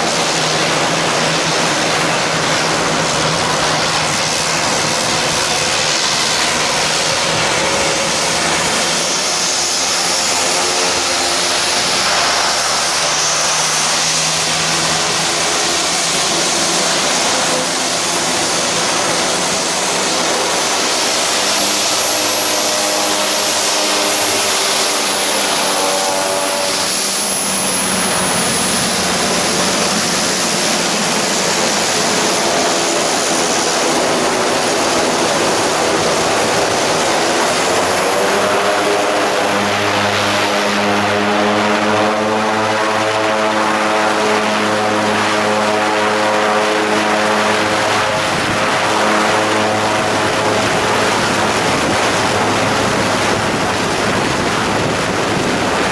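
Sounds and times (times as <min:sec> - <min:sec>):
engine drone: 0:00.0 - 0:55.9
loud rushing noise: 0:00.0 - 0:55.9.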